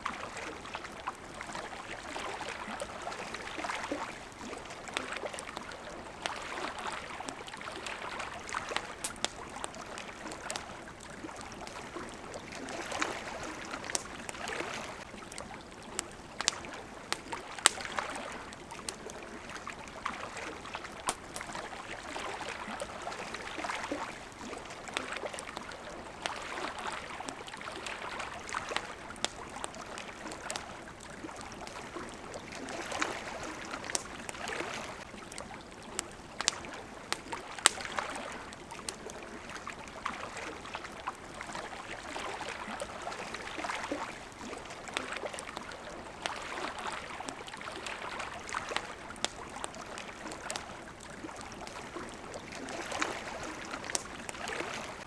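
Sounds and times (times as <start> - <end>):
campfire crackling: 0.0 - 55.0
small waves lapping: 0.0 - 55.0.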